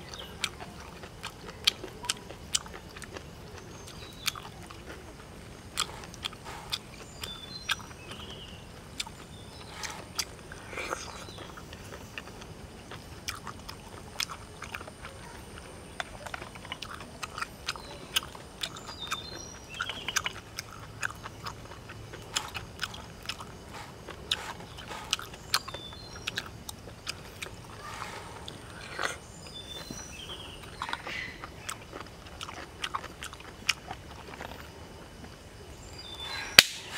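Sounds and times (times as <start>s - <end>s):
person chewing: 0.0s - 35.4s.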